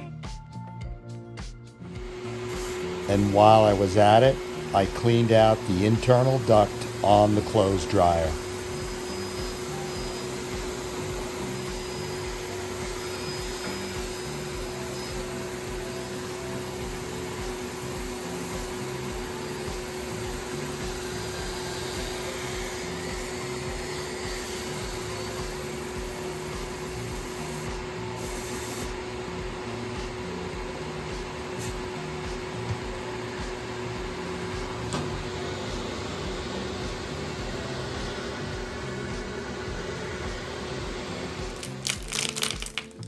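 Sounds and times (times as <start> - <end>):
vacuum cleaner running: 1.8 - 43.0.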